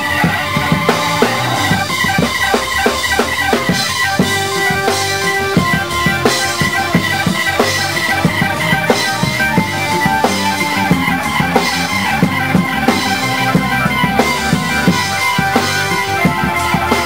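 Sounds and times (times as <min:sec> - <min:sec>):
drum kit steady beat: 0:00.0 - 0:17.0
organ sustained chords: 0:00.0 - 0:17.0.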